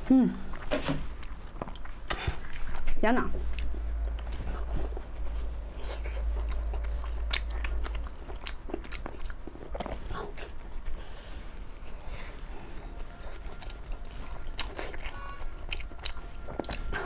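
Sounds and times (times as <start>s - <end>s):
low hum: 0.0s - 17.0s
wet chewing and smacks: 1.2s - 17.0s.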